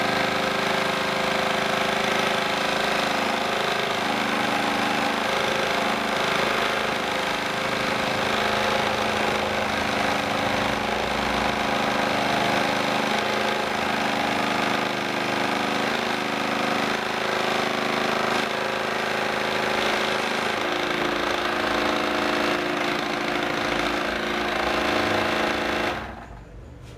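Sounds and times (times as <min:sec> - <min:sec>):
scroll saw buzzing: 0:00.0 - 0:26.4.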